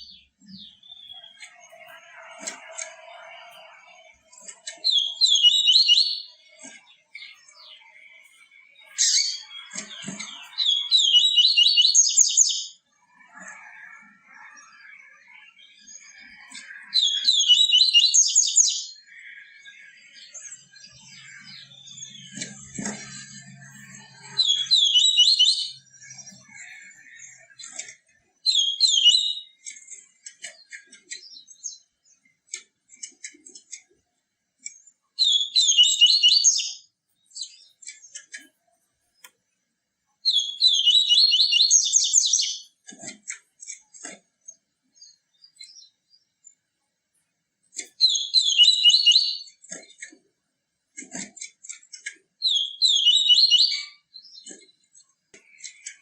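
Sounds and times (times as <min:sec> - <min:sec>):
bird twittering song: 0:00.0 - 0:33.8, 0:34.6 - 0:39.6, 0:40.2 - 0:46.7, 0:47.7 - 0:50.0, 0:51.9 - 0:56.0.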